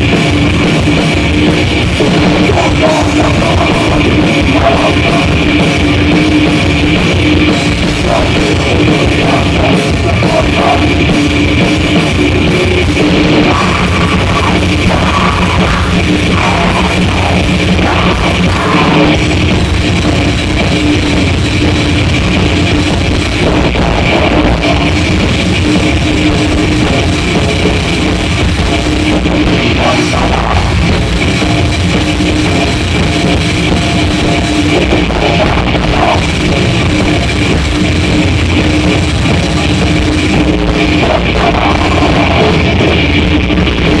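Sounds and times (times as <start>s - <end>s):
live grindcore metal band: 0.0s - 44.0s.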